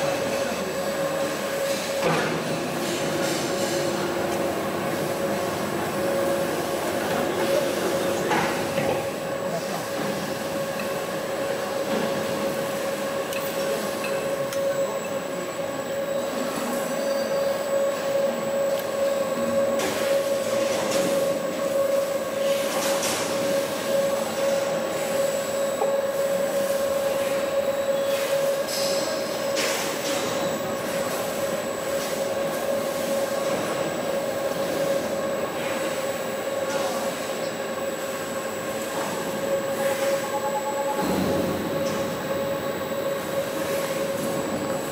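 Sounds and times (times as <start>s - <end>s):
constant machine hum: 0.0s - 44.9s.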